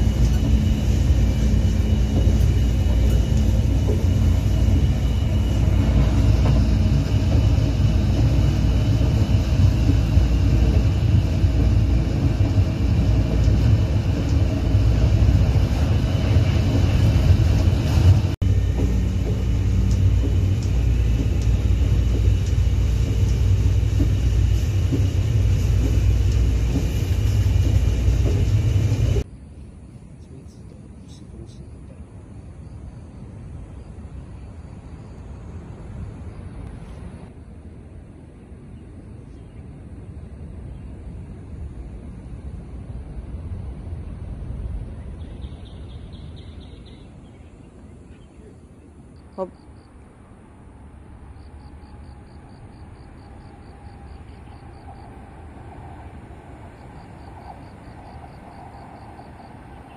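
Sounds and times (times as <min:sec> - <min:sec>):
faint humming tones: 0:00.0 - 0:59.9
train rumbling on track: 0:00.0 - 0:59.9.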